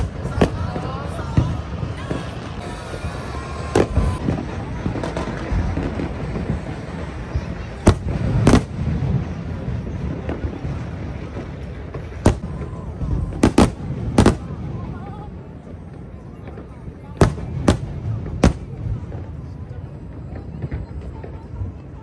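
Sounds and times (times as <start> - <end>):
fireworks bursting bangs: 0.0 - 22.0
steady background noise: 0.0 - 22.0.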